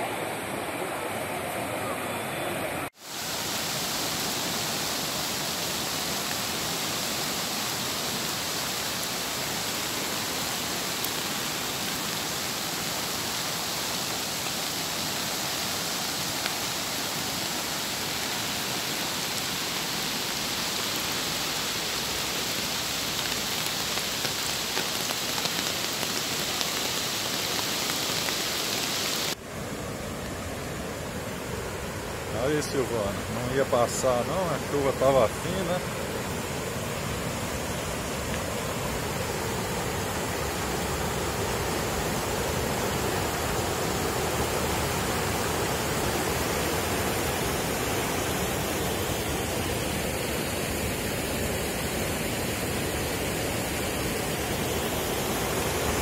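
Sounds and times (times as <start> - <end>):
flooded river rushing: 0.0 - 56.0
rain hissing: 0.0 - 56.0.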